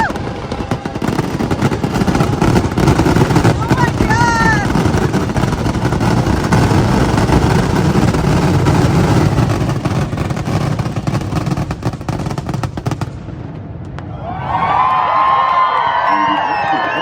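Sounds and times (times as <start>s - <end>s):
fireworks bangs and crackling: 0.0s - 15.1s.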